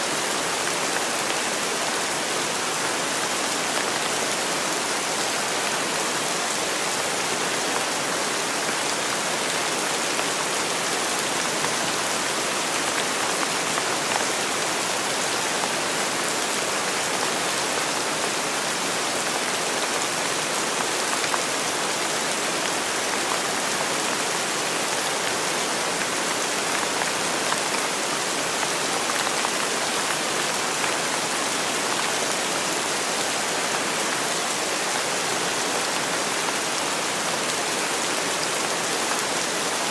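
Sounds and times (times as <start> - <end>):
steady rain pattering: 0.1 - 39.9.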